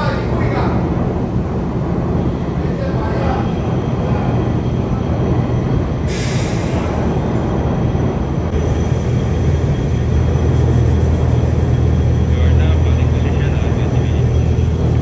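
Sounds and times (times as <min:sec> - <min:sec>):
heavy machinery rumble and hum: 0:00.0 - 0:15.0.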